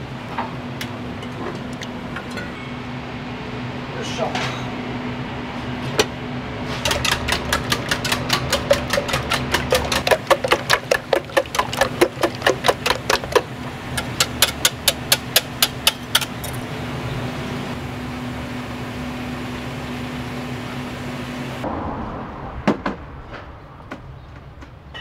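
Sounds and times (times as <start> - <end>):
burner and extraction fan hum: 0.0 - 21.7.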